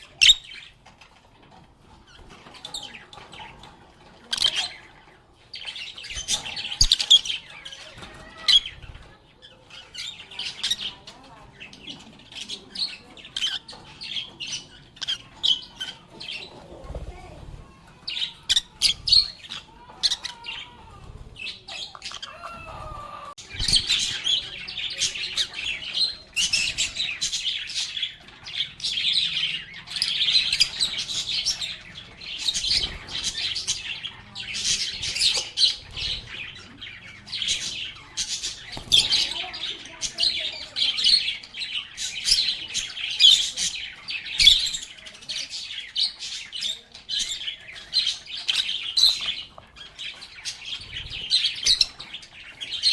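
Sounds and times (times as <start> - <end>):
lovebirds chirping: 0.0 - 52.9.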